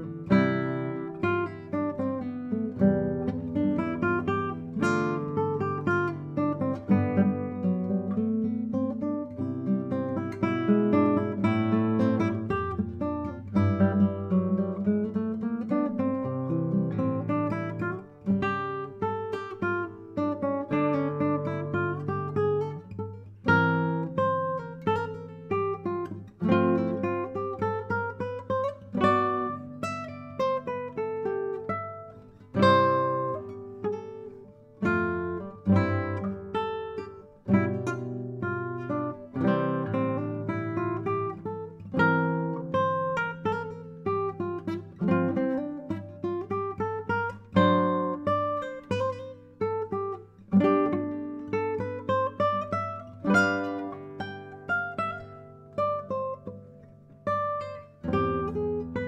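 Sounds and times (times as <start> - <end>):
fingerpicked classical guitar: 0.0 - 59.0.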